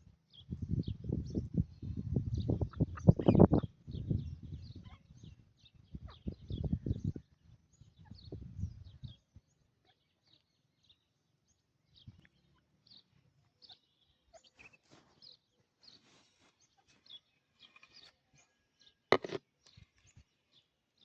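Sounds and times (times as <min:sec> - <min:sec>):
faint bird chirps: 0:00.3 - 0:21.0.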